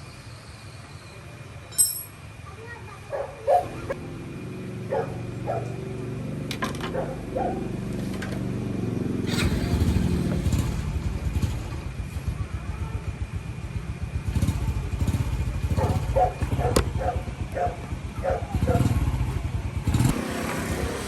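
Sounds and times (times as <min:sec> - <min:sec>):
small engine running: 0:03.7 - 0:21.0.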